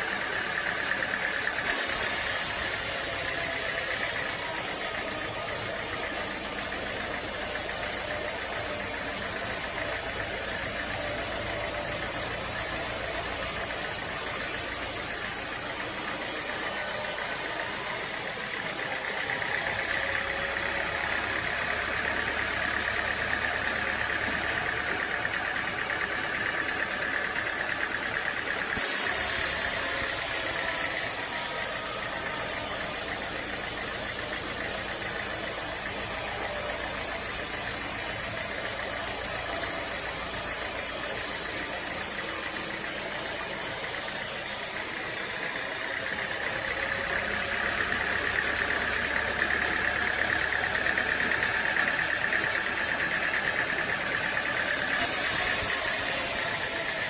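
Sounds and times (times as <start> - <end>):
engine running: 0.0 - 57.0
sawmill machinery running: 0.0 - 57.0.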